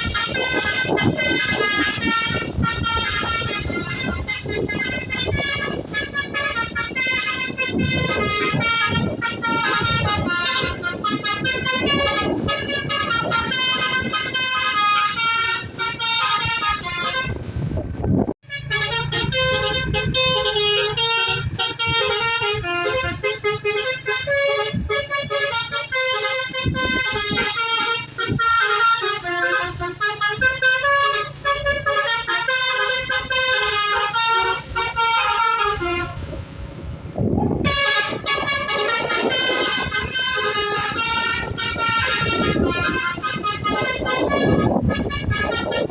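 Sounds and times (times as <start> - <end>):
musical air horn melody: 0.0 - 17.4, 18.4 - 36.4, 37.6 - 45.9
engine noise: 0.0 - 45.9.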